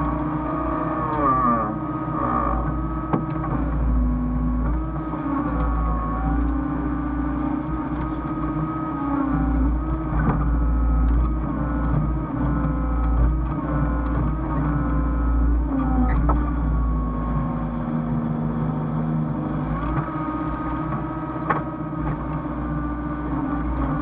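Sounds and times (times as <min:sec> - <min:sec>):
excavator engine rumbling: 0:00.0 - 0:24.0.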